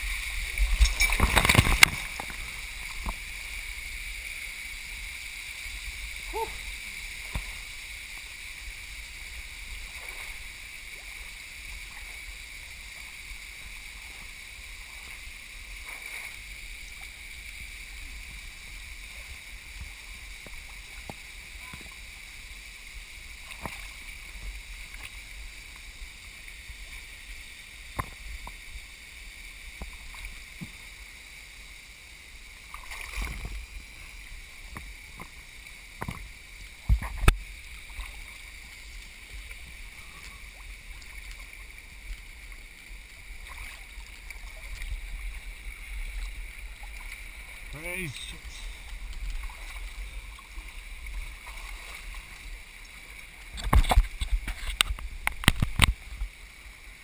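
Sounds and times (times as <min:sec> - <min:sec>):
waterfall splashing into pool: 0:00.0 - 0:57.0.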